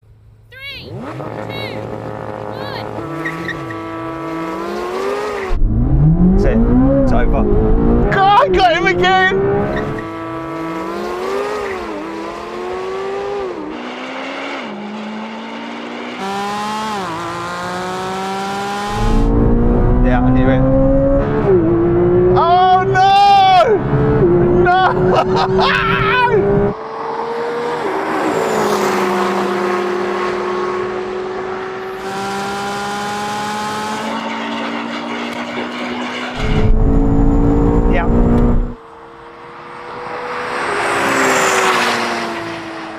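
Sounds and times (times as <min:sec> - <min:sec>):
sports car engine accelerating: 0:00.9 - 0:23.0, 0:23.6 - 0:42.9.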